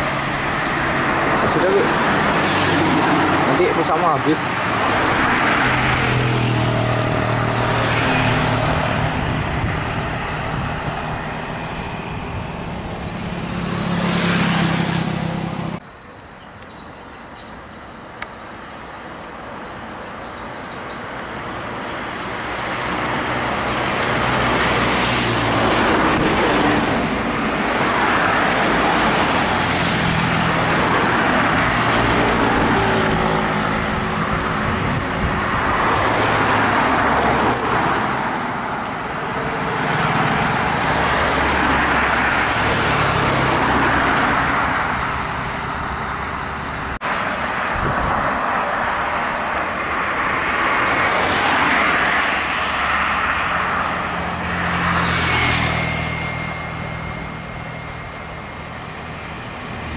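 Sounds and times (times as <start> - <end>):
tyre noise of passing bus: 0.0 - 59.9.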